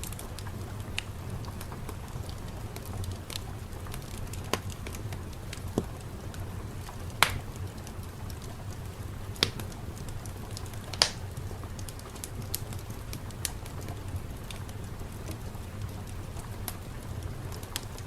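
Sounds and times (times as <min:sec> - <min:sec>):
fireplace crackling and popping: 0:00.0 - 0:18.0.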